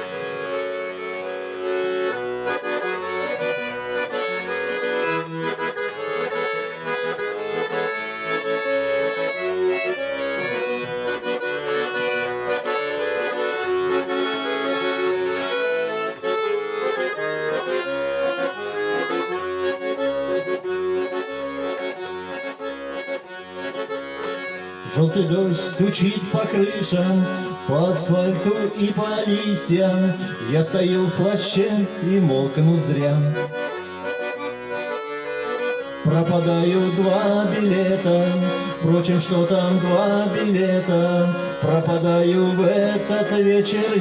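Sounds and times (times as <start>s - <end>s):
accordion playing: 0.0s - 44.0s.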